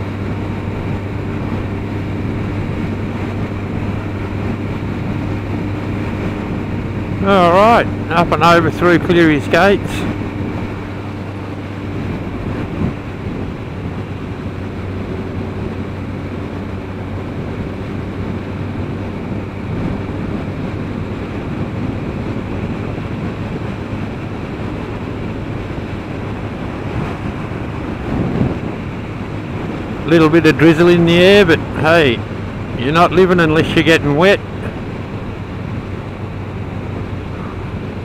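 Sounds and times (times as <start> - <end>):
motorcycle engine low hum: 0.0 - 38.0
wind rushing over microphone: 0.0 - 38.0.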